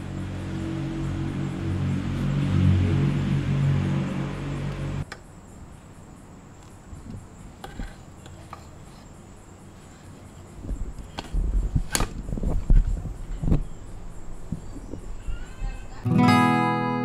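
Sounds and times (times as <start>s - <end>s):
faint crickets chirping: 0.0s - 16.3s.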